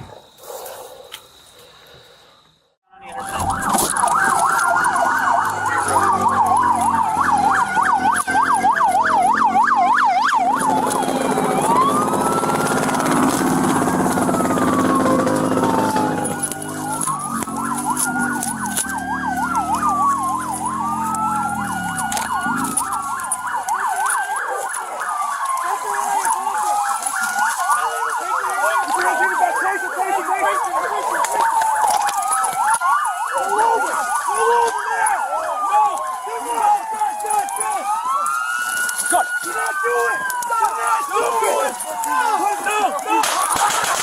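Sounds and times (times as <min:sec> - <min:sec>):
emergency vehicle sirens: 0:02.7 - 0:44.0.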